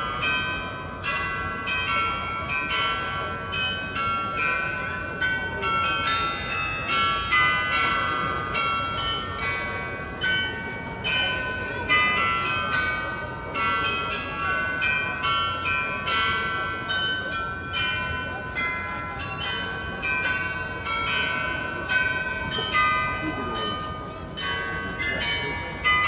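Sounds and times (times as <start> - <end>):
carillon bells playing a tune: 0.0 - 26.0.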